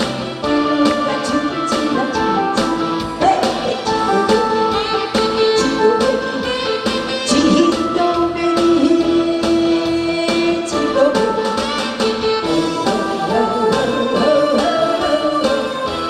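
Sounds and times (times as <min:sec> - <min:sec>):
instrumental accompaniment: 0:00.0 - 0:16.0
person singing into microphone: 0:00.4 - 0:11.6, 0:12.3 - 0:16.0.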